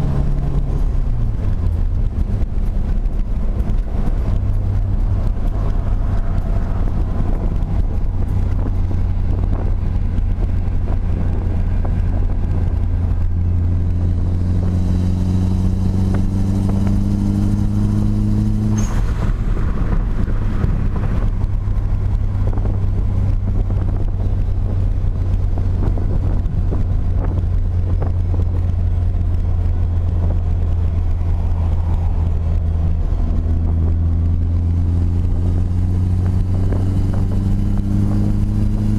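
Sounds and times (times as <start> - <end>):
turbocharged car engine droning: 0.0 - 38.9.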